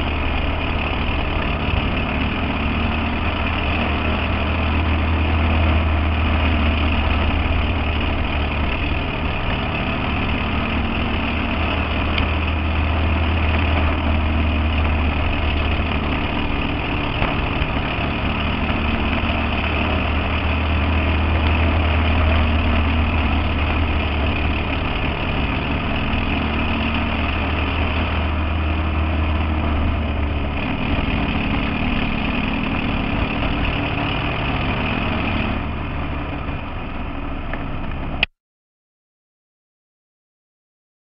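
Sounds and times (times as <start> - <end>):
deep low drone: 0.0 - 38.3
race car engine running: 0.0 - 38.3
road noise: 0.0 - 38.3.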